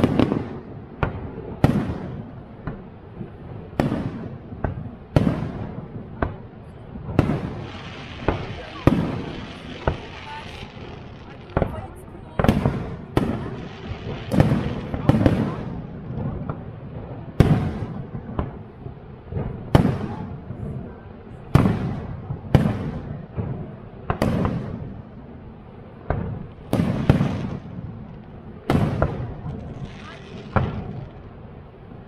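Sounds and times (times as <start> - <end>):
fireworks bursting with echo: 0.0 - 32.0.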